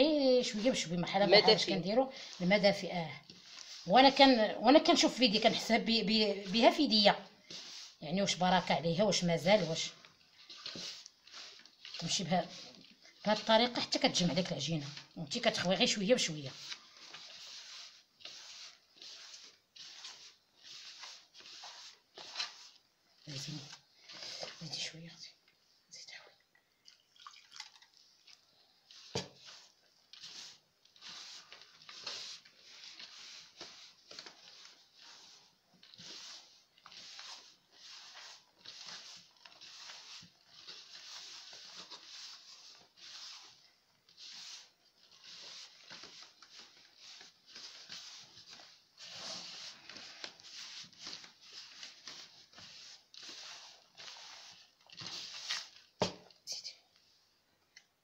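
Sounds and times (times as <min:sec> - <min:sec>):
hands rubbing dough in bowl: 0:00.0 - 0:25.0, 0:28.3 - 0:56.0.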